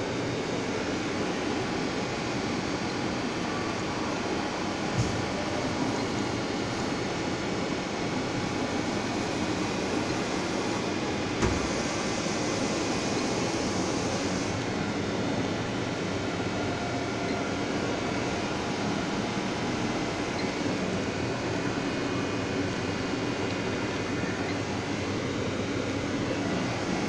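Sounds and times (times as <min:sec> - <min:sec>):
lathe machine running: 0:00.0 - 0:27.0.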